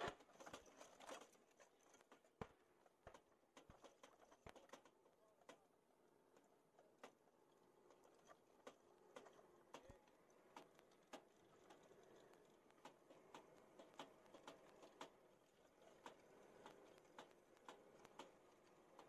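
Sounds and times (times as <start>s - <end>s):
faint sharp clicks and knocks: 0.0s - 19.0s.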